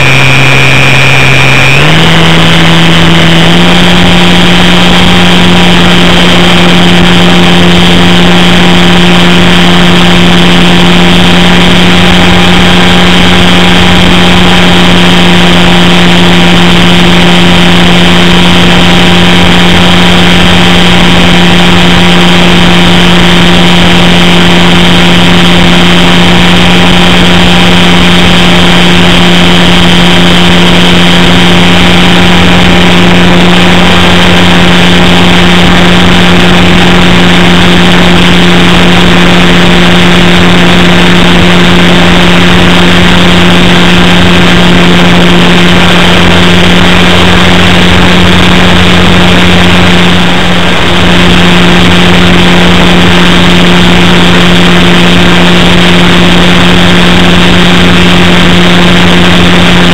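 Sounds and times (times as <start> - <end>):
electric motor and propeller drone: 0.0 - 59.9
high whine: 0.0 - 59.9
rushing air: 0.0 - 59.9.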